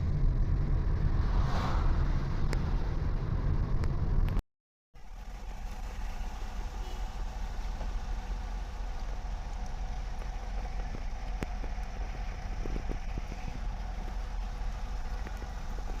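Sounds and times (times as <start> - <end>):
vehicle engine and road noise: 0.0 - 4.4, 5.0 - 16.0.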